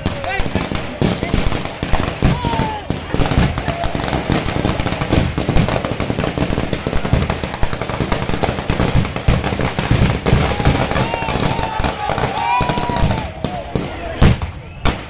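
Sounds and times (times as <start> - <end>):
fireworks crackling bangs: 0.0 - 15.0.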